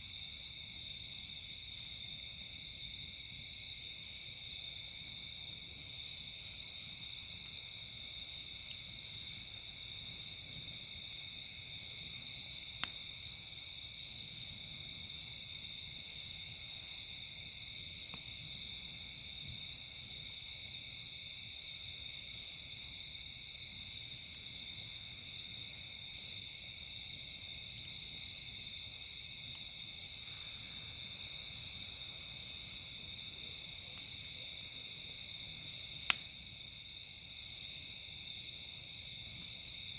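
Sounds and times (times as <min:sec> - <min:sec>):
campfire popping: 0:00.0 - 0:39.9
chorus of crickets and insects: 0:00.0 - 0:39.9
high insect call: 0:00.0 - 0:39.9.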